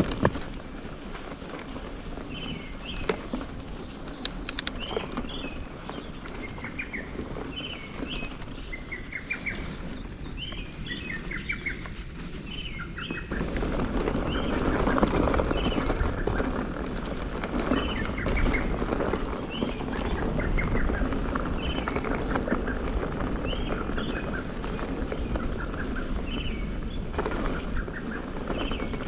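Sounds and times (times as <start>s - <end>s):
bike tyres rolling on dirt: 0.0s - 29.0s
sharp clicks from bike: 0.0s - 29.0s
songbirds singing: 1.6s - 29.0s.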